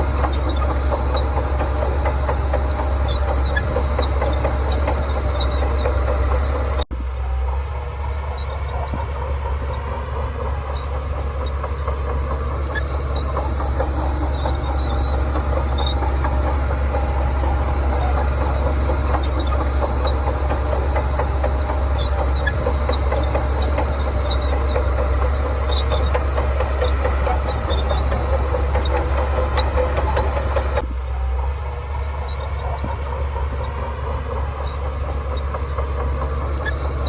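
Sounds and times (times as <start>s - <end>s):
steel tracks rattling and clanking: 0.0s - 6.9s, 7.5s - 37.0s
bulldozer diesel engine humming: 0.0s - 37.0s.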